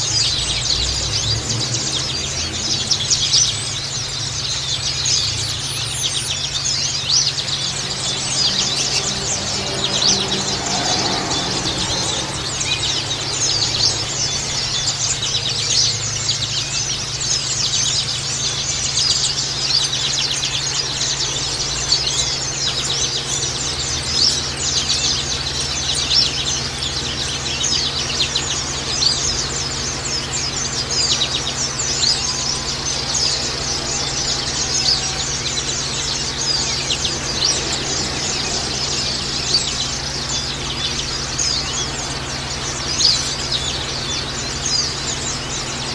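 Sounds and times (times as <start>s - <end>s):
birds twittering and singing: 0.0s - 45.9s
steady low hum: 0.0s - 45.9s.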